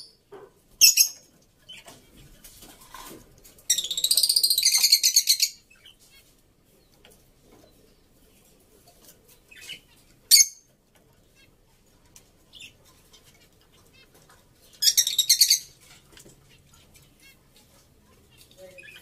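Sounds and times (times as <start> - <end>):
bird chirping: 0.0 - 2.0, 3.6 - 19.0.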